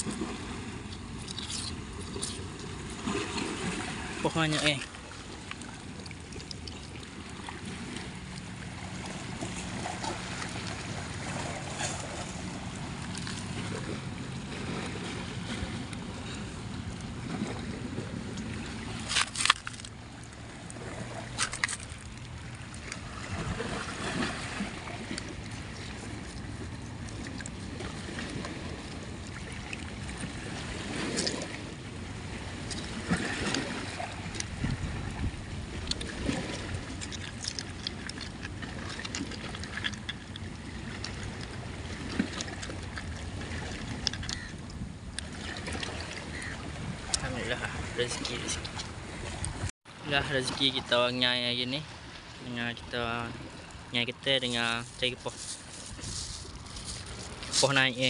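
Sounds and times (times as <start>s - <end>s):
water sloshing: 0.0s - 58.0s.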